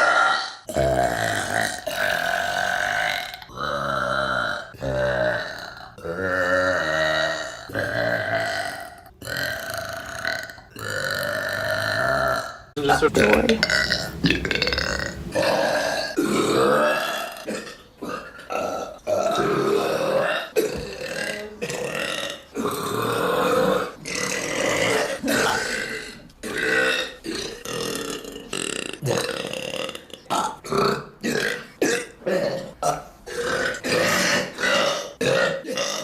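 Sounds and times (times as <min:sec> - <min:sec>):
girl burping: 0:00.0 - 0:36.0.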